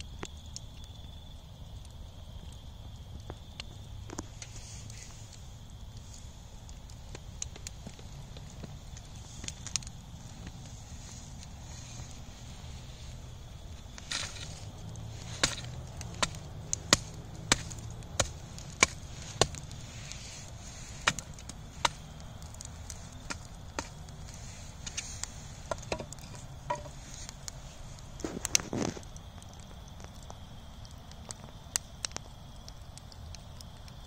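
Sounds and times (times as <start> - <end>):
embers crackling and popping: 0.0 - 34.0.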